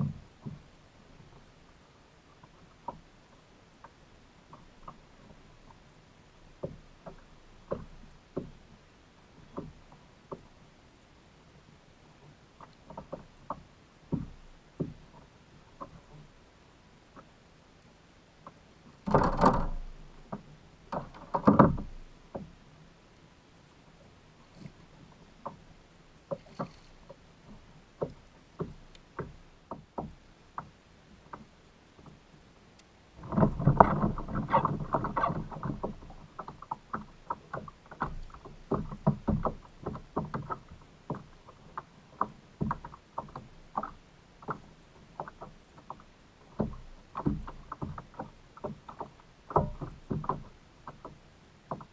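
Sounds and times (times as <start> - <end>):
light knocks and ticks: 0.0 - 1.5, 2.3 - 5.8, 6.5 - 8.7, 9.4 - 10.6, 12.2 - 16.3, 18.4 - 22.6, 24.4 - 32.2, 32.8 - 51.9
water splashing around kayak: 0.0 - 51.9.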